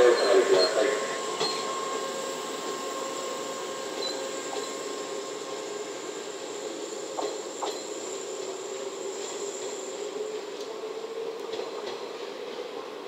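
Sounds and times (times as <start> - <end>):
electric train rumbling: 0.0 - 13.0
wheel and motor whine: 0.0 - 13.0.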